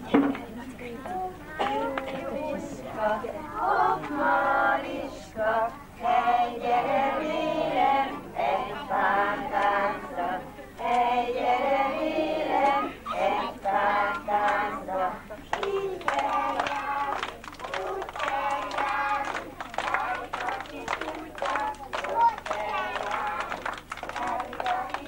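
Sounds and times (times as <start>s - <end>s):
women and children singing: 0.0s - 25.0s.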